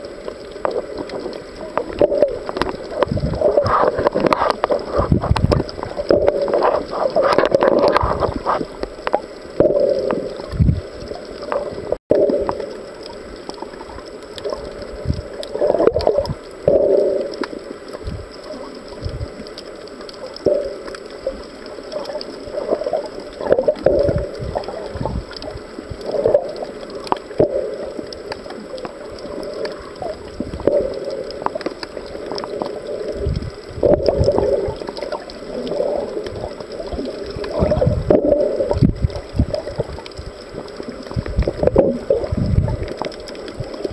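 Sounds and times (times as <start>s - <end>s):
underwater sloshing and gurgling: 0.0s - 43.9s.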